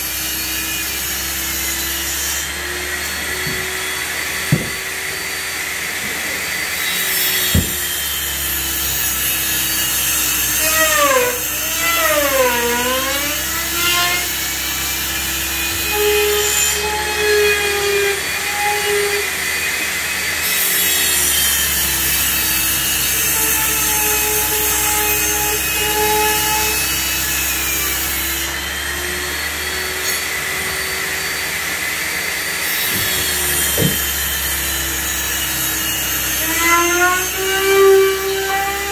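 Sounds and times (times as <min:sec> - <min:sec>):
trim router cutting plywood: 0:00.0 - 0:38.9.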